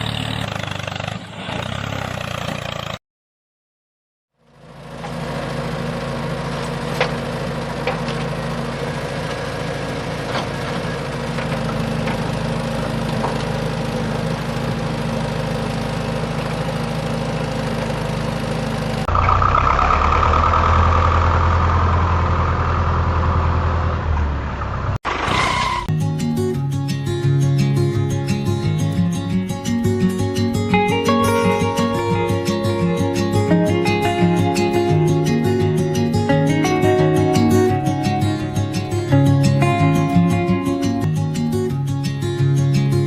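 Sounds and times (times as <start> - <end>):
tractor engine drone: 0.0 - 3.0, 4.4 - 43.0.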